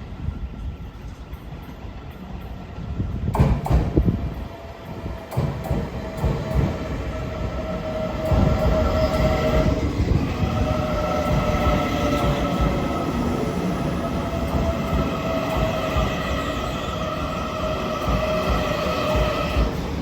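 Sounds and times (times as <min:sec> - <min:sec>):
high-pitched train whine: 0:00.0 - 0:20.0
train rumble: 0:00.0 - 0:20.0.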